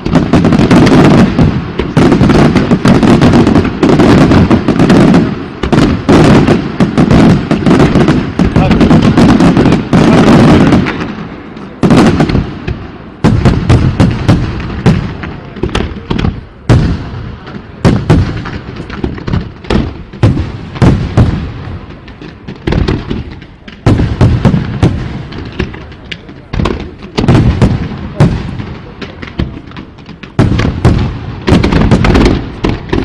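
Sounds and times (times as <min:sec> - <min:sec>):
fireworks booms and bangs: 0:00.0 - 0:33.0.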